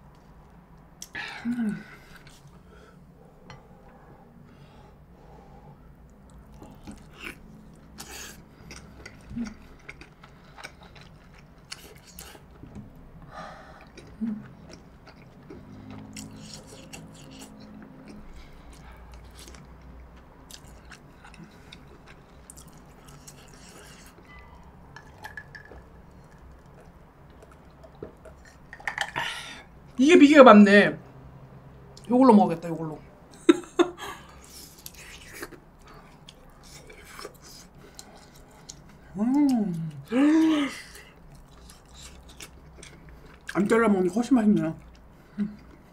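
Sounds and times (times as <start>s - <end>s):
person chewing food: 0.1s - 4.0s, 6.0s - 29.9s, 34.2s - 43.6s, 44.6s - 45.9s.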